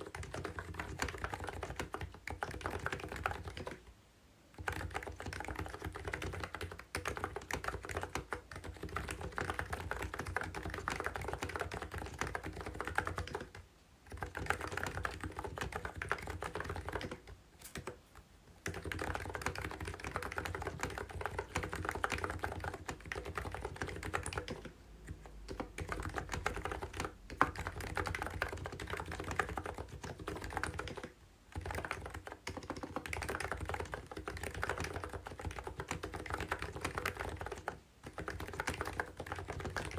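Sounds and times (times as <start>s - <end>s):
fast typing on keyboard: 0.0s - 3.9s, 4.5s - 18.0s, 18.6s - 39.9s.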